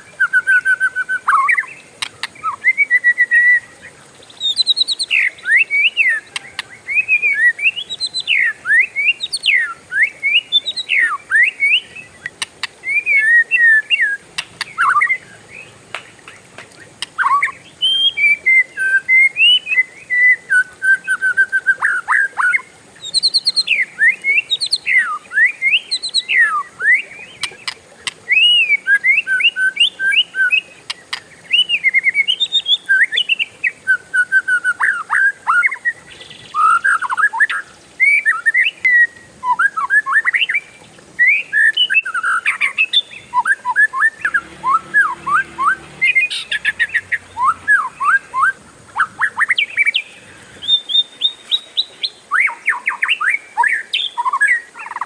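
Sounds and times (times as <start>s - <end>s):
bird singing whistled song: 0.0s - 16.4s, 17.1s - 55.0s.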